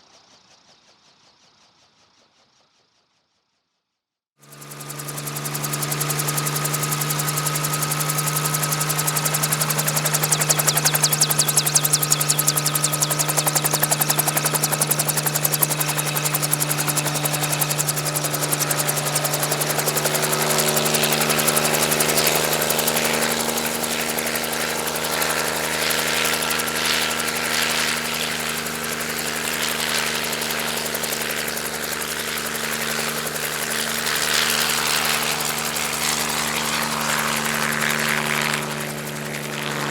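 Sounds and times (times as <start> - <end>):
helicopter engine whine: 4.4 - 39.9
helicopter blade chop: 4.5 - 39.9.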